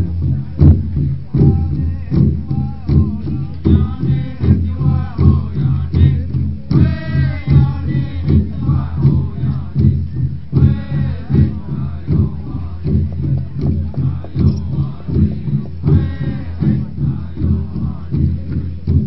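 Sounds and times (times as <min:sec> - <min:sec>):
drum steady beat: 0:00.0 - 0:19.0
group singing: 0:00.0 - 0:19.0.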